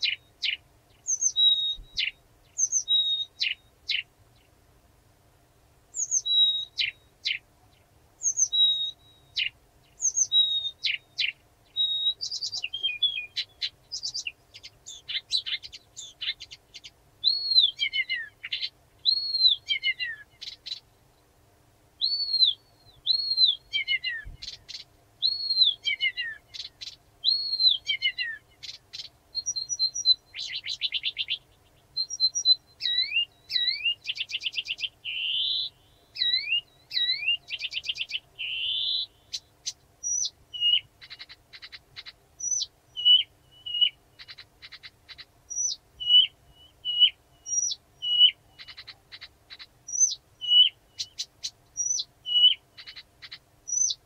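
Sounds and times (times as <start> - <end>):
warbler singing: 0.0 - 4.6, 5.9 - 21.3, 22.0 - 54.0.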